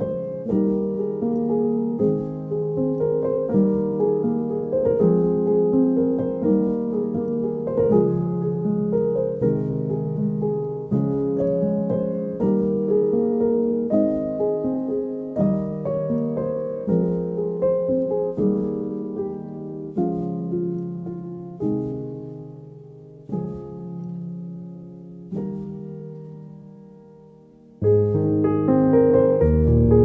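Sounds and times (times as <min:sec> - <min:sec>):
gentle instrumental music: 0:00.0 - 0:30.0.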